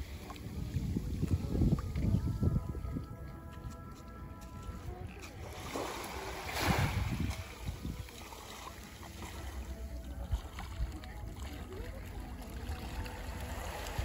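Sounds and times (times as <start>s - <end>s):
small waves lapping on shore: 0.0s - 2.9s, 4.5s - 14.0s.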